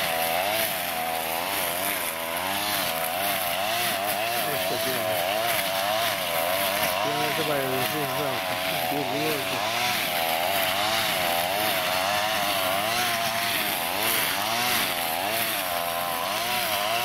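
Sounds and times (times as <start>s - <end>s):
brush cutter cutting grass: 0.0s - 17.0s.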